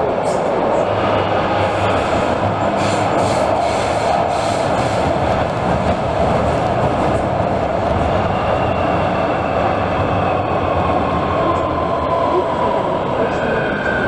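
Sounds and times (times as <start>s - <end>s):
train wheels and air rumbling: 0.0s - 14.0s.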